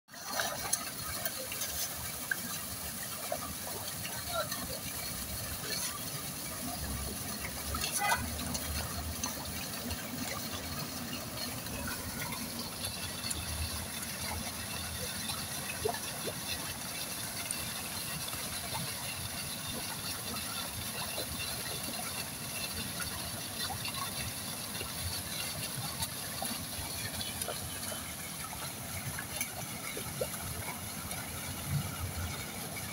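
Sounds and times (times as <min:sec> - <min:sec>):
pond water splashing and sloshing: 0:00.1 - 0:32.9.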